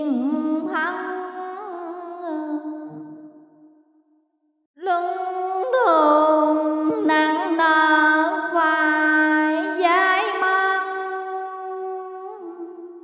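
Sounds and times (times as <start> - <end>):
person chanting: 0.0 - 3.6, 4.8 - 13.0.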